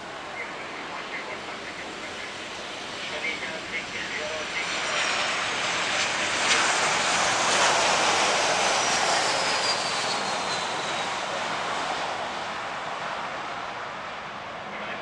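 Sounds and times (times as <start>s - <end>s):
jet engines roaring on landing: 0.0s - 15.0s.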